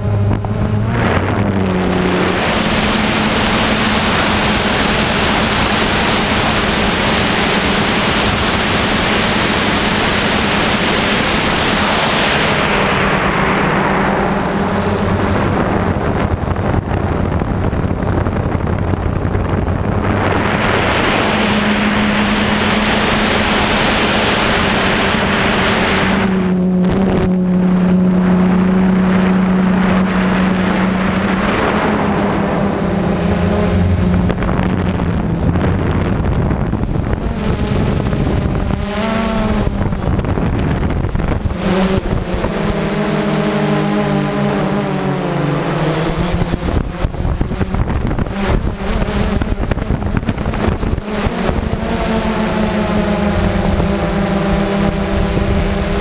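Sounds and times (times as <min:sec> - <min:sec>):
drone motors whining: 0:00.0 - 0:56.0
rushing air noise: 0:00.0 - 0:56.0.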